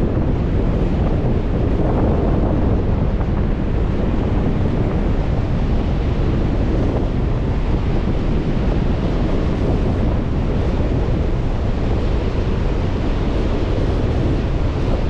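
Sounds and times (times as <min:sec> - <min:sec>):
lake waves roaring: 0:00.0 - 0:15.0
wind buffeting microphone: 0:00.0 - 0:15.0.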